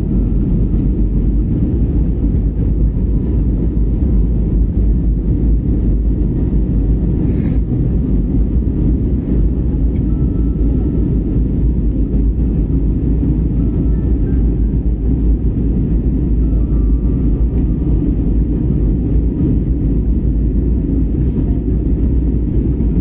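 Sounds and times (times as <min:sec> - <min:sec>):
airliner engines rumbling: 0:00.0 - 0:23.0.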